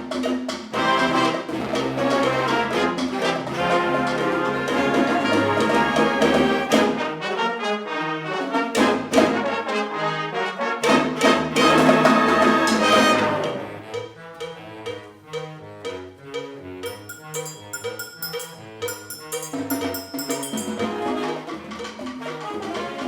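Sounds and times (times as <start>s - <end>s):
wind ensemble playing mambo: 0.0s - 23.0s
trombones and trumpets: 0.7s - 23.0s.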